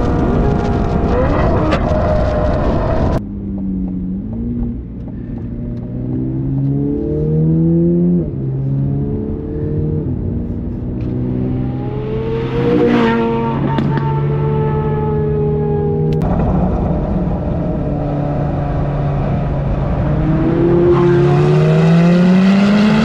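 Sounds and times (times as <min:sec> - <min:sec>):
sports car engine accelerating: 0:02.9 - 0:16.2, 0:17.7 - 0:23.0.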